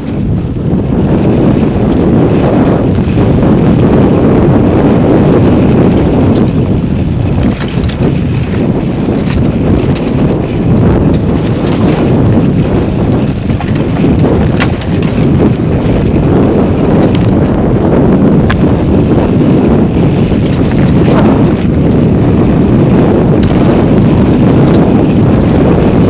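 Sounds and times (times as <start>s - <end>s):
wind on microphone: 0.0s - 26.0s
bike clicks and rattles: 1.0s - 26.0s.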